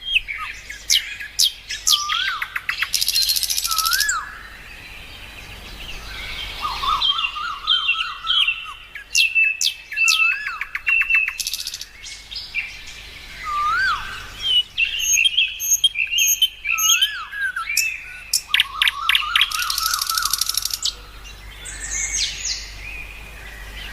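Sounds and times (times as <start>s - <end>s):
bird trills and chirps: 0.0s - 23.9s
birds whistling: 0.0s - 23.9s.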